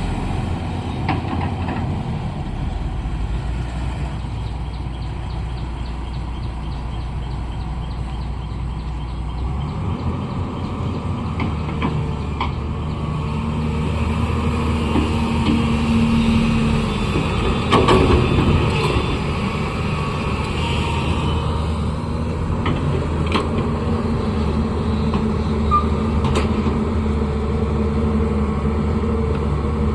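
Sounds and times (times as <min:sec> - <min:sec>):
diesel engine working: 0:00.0 - 0:29.9.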